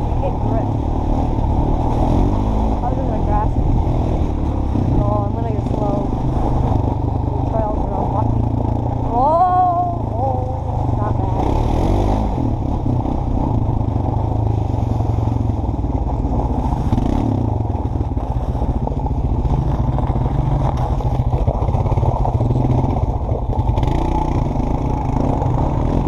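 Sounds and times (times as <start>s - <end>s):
four-wheeler engine running: 0.0s - 26.0s.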